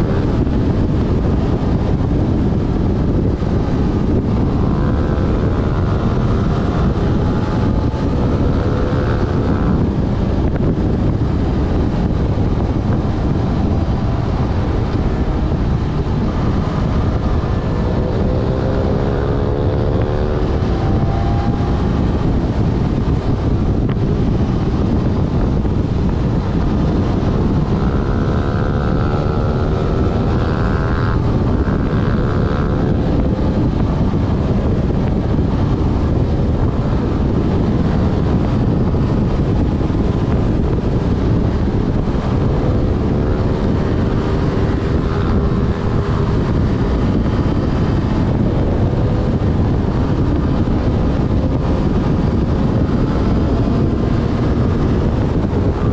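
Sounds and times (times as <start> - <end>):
motorcycle engine accelerating: 0.0 - 55.9
wind rush on microphone: 0.0 - 55.9.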